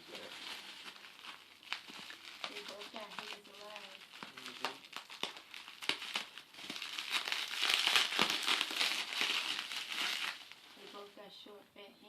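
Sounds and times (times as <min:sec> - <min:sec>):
wrapping crinkling: 0:00.0 - 0:11.2.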